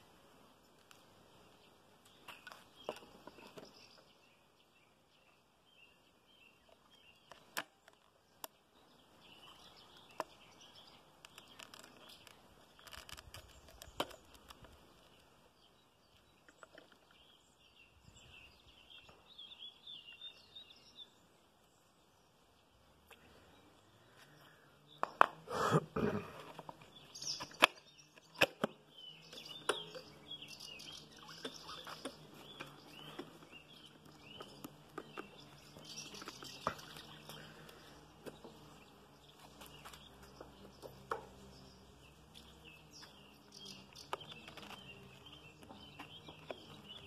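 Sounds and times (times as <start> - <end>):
birds chirping faintly: 0.0 - 47.0.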